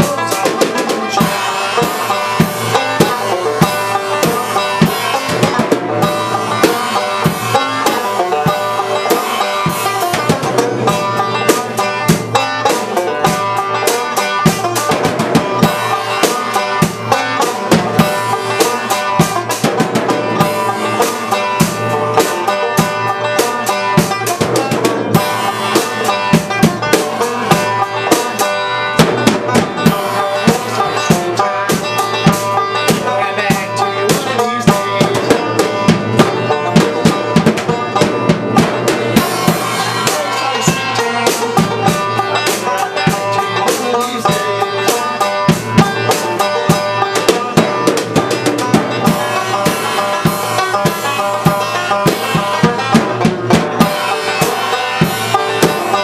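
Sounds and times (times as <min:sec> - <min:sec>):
banjo plucked notes: 0:00.0 - 0:56.0
drum kit playing: 0:00.0 - 0:56.0.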